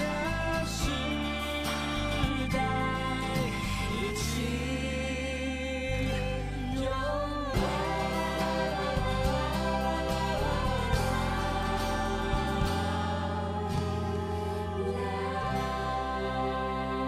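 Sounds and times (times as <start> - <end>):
person singing: 0.0 - 17.0
pop instrumental backing: 0.0 - 17.0.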